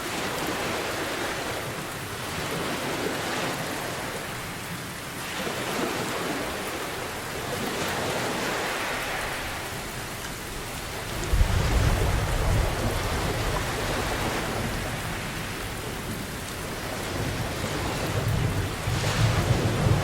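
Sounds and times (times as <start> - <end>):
heavy rain: 0.0 - 20.0
ocean waves washing in: 0.0 - 20.0.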